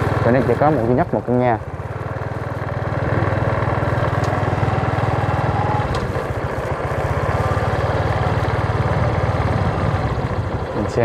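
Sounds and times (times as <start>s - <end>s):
small motorbike engine running: 0.0s - 11.0s.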